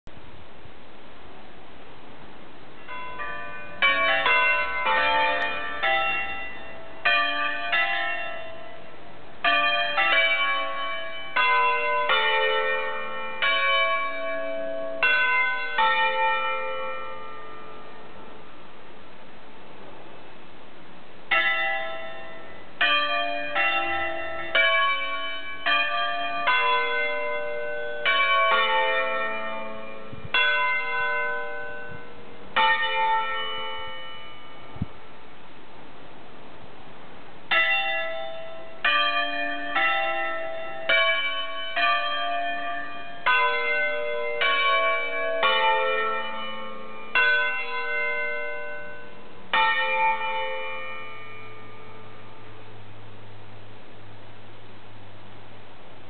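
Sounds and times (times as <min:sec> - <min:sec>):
church bells ringing a tune: 0:02.8 - 0:18.7, 0:21.3 - 0:35.2, 0:37.5 - 0:53.8.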